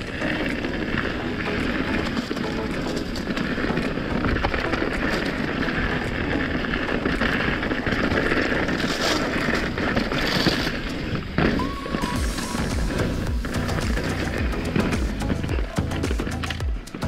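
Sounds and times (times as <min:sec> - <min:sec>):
bike rattling and clicking: 0:00.0 - 0:17.0
bike tyres rumbling over dirt: 0:00.0 - 0:17.0.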